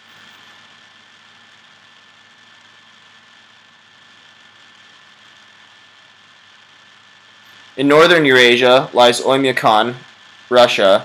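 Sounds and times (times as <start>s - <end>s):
background hiss: 0.0s - 11.0s
thin high whine: 0.0s - 11.0s.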